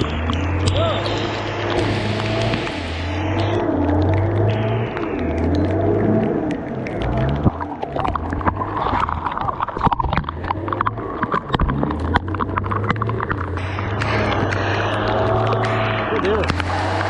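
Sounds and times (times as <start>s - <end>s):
vehicle engine running: 0.0s - 9.2s, 10.2s - 17.0s.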